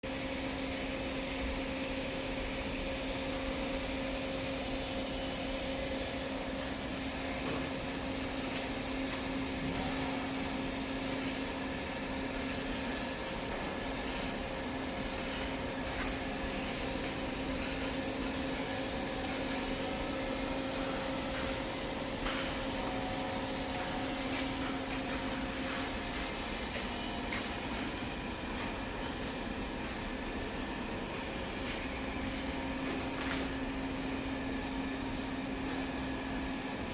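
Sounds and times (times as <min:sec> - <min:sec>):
welding hum and hiss: 0:00.1 - 0:36.9.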